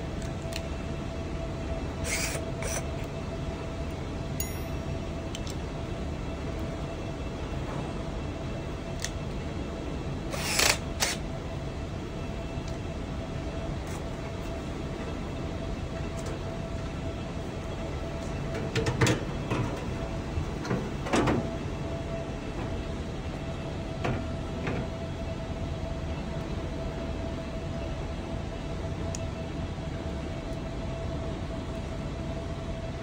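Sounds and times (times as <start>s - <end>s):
faint constant hum: 0.0s - 33.0s
steady background rumble: 0.0s - 33.0s.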